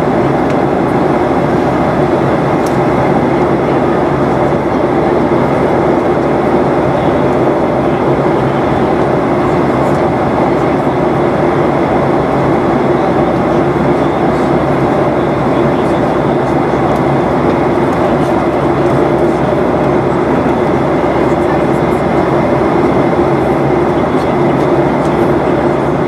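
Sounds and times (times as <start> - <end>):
airplane cabin engine roar: 0.0 - 26.0.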